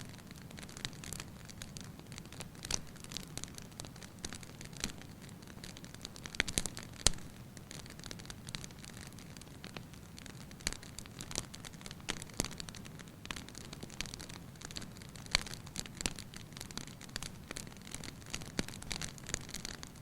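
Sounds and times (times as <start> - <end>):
fire crackling and popping: 0.0 - 20.0
low hum of burning: 0.0 - 20.0.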